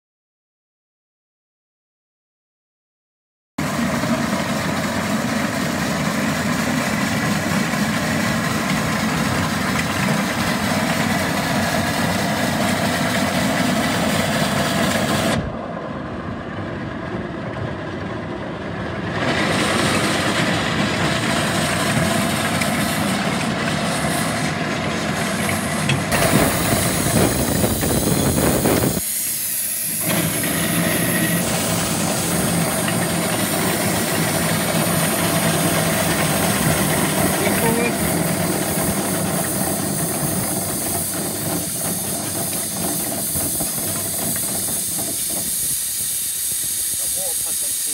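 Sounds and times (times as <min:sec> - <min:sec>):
small steam engine running: 0:03.6 - 0:15.4, 0:18.1 - 0:47.9
steam hissing: 0:03.6 - 0:15.4, 0:19.4 - 0:47.9.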